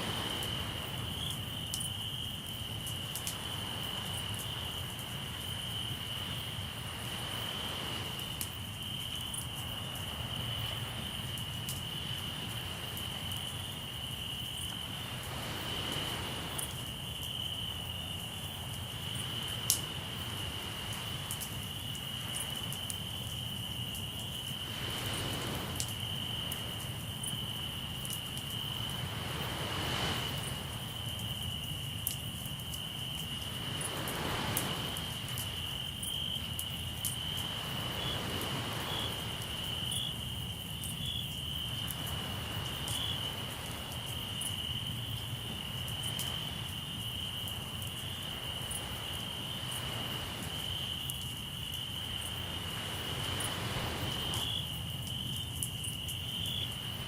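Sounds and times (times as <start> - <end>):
crickets chirping: 0.0 - 57.0
waves washing ashore: 0.0 - 57.0.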